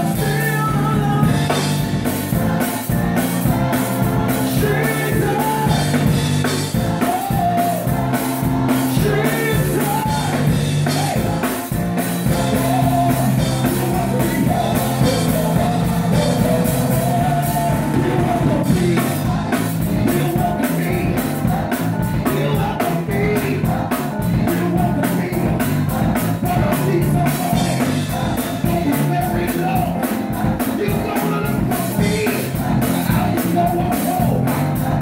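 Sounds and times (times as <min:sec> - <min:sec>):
choir singing: 0:00.0 - 0:24.5, 0:25.8 - 0:35.0
bass line: 0:00.0 - 0:35.0
drums: 0:00.0 - 0:35.0.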